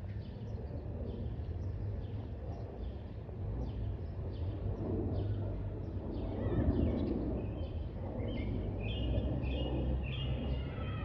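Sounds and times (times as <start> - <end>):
distant jet engine rumble: 0.0 - 11.0.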